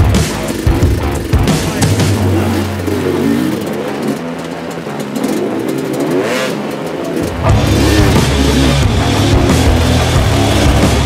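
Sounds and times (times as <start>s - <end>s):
dirt bike engines revving: 0.0s - 11.0s
steady low hum: 0.0s - 11.0s.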